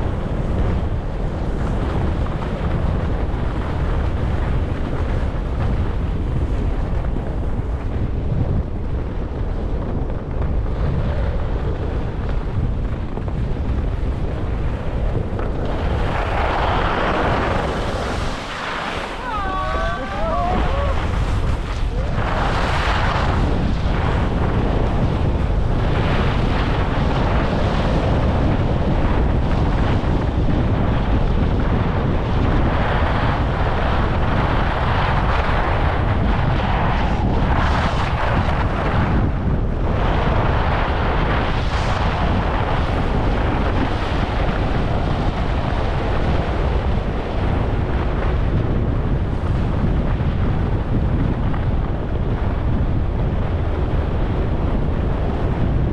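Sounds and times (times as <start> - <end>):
wind buffeting microphone: 0.0 - 55.9
skis scraping over snow: 0.1 - 52.6.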